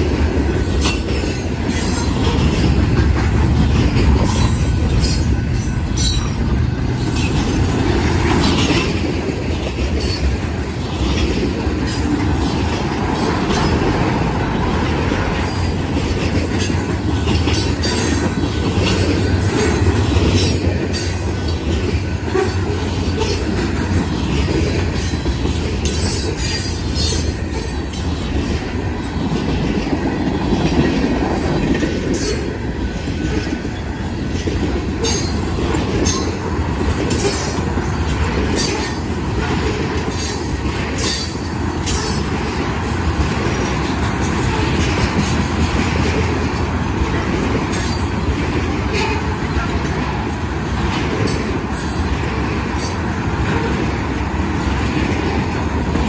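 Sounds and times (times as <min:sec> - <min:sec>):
rail clicks and clacks: 0:00.0 - 0:56.0
train wheels rumbling on rails: 0:00.0 - 0:56.0.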